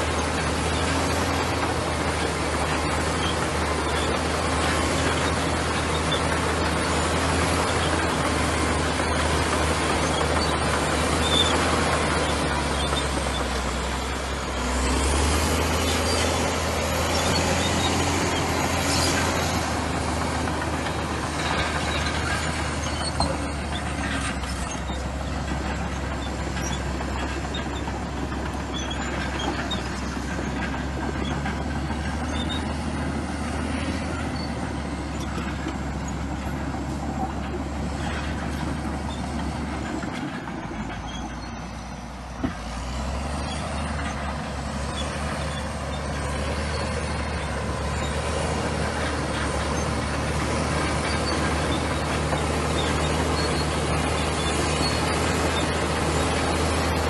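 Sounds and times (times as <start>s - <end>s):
bulldozer diesel engine droning: 0.0s - 57.0s.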